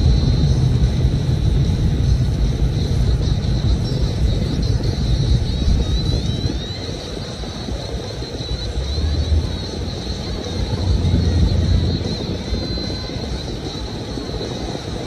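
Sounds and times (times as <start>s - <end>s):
car engine and road rumble: 0.0s - 15.0s
faint high chirping: 2.8s - 15.0s.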